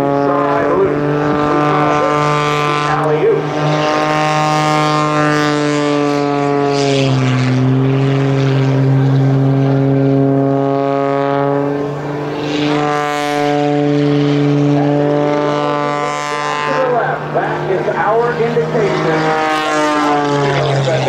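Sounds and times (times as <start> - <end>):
propeller plane engine: 0.0 - 21.0.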